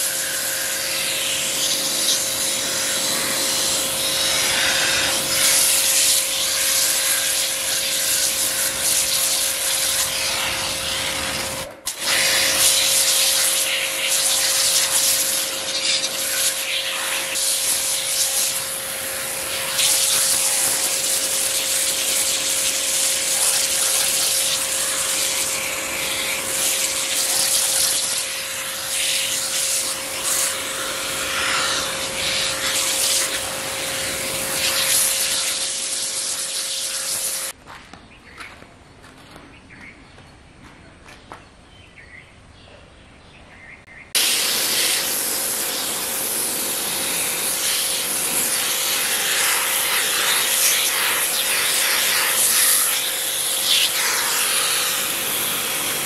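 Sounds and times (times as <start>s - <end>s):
pressure washer spray hissing: 0.0s - 37.6s, 44.2s - 56.0s.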